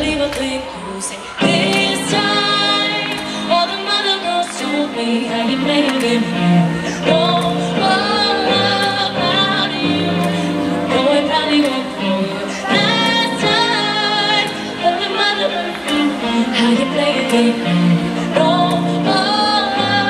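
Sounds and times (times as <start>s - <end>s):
female vocal group singing: 0.0s - 20.0s
music accompaniment: 0.0s - 20.0s.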